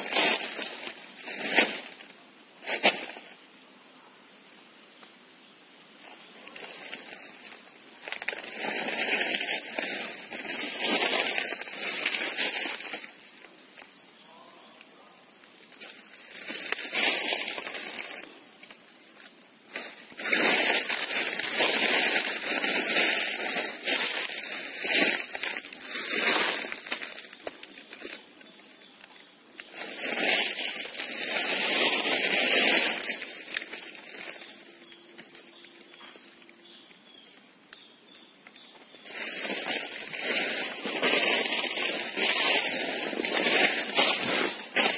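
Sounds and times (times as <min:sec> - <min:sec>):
footsteps crunching dry leaves: 0:00.0 - 0:03.4, 0:06.1 - 0:14.0, 0:15.5 - 0:37.4, 0:38.6 - 0:44.9.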